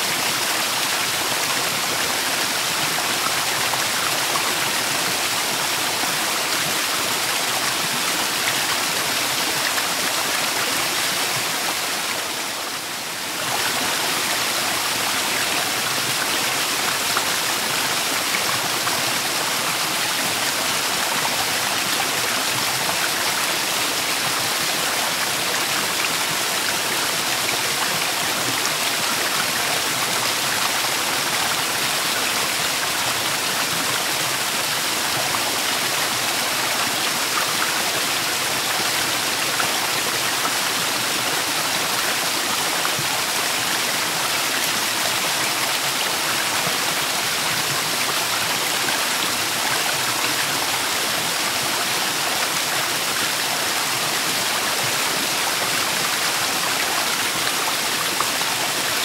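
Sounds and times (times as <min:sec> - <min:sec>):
creek cascading over rocks: 0:00.0 - 0:59.0.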